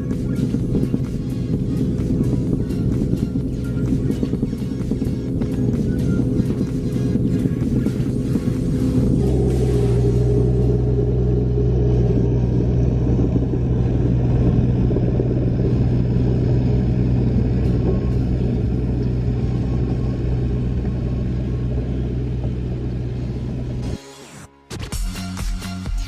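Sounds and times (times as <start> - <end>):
excavator diesel engine running: 0.0 - 24.5.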